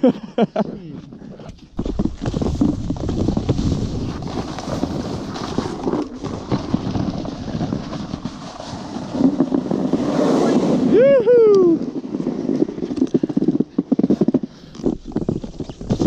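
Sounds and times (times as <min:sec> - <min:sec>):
snowboard sliding over snow: 0:01.5 - 0:16.0.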